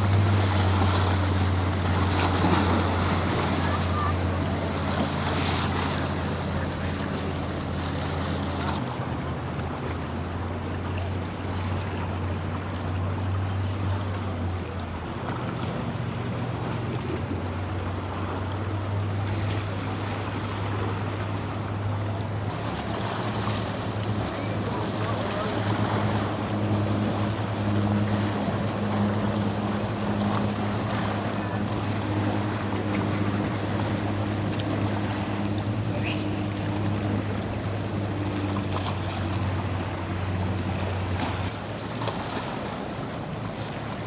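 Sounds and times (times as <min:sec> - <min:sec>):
boat engines droning: 0:00.0 - 0:44.0
surf washing: 0:00.0 - 0:44.0.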